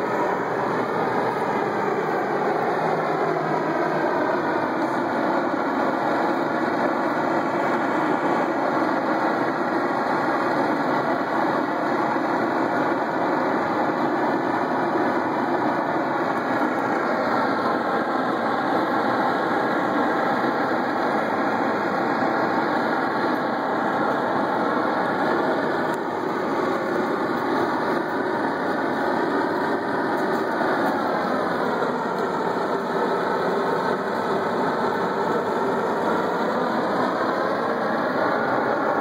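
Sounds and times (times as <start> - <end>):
roaring jet of flame: 0.0 - 39.0.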